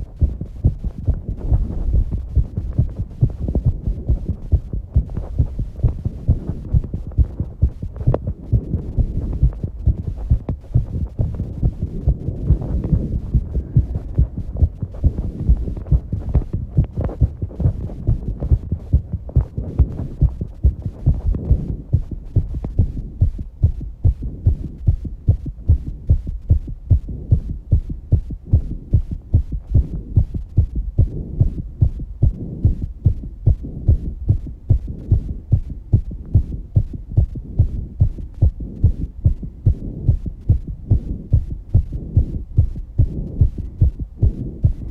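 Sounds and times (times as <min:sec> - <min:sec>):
heartbeat thuds: 0:00.0 - 0:44.9.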